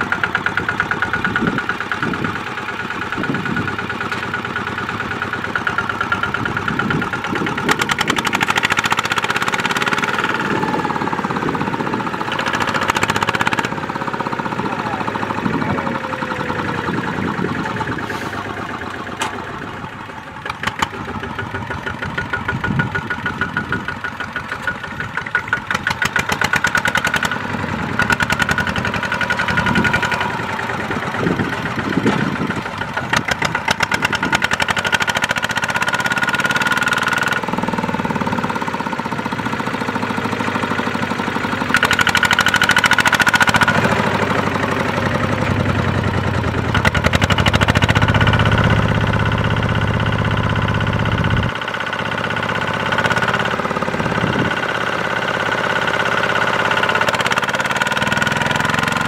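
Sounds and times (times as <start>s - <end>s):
diesel engine knocking under load: 0.0s - 59.0s.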